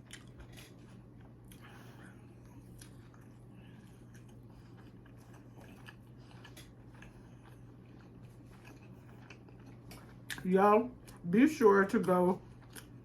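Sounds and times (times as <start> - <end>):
low steady hum: 0.0 - 13.0
person chewing food: 0.0 - 13.0.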